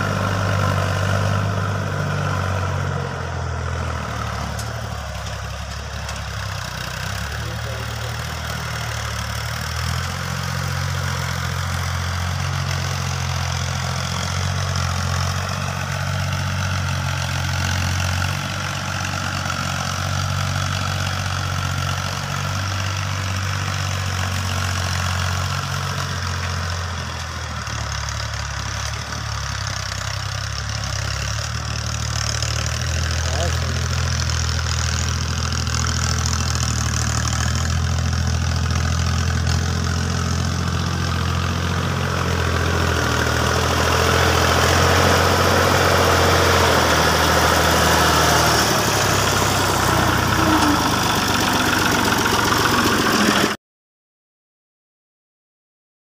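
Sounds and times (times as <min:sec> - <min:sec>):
tractor diesel engine running: 0:00.0 - 0:53.6.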